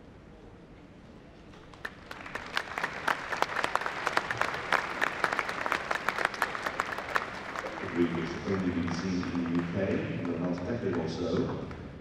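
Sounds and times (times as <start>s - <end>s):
audience applauding: 1.7s - 11.8s.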